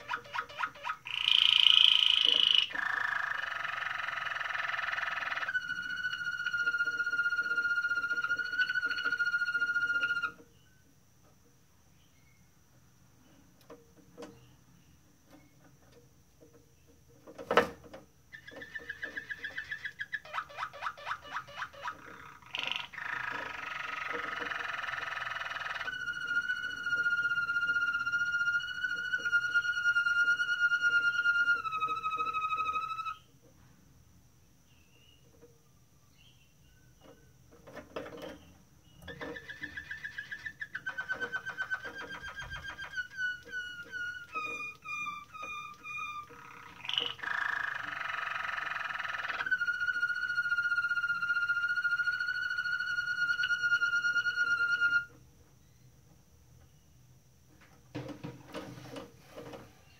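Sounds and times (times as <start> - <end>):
canary singing: 0.0 - 10.9, 14.2 - 33.4, 34.7 - 55.9
canary trill: 0.0 - 10.9, 17.2 - 33.4, 34.7 - 55.9.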